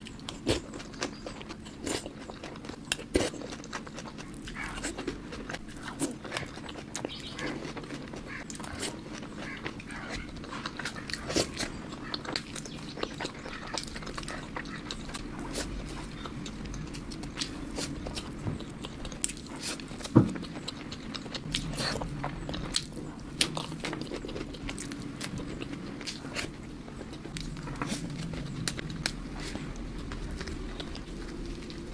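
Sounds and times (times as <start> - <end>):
chewing crisp food: 0.0 - 31.9
low background hum: 0.0 - 31.9.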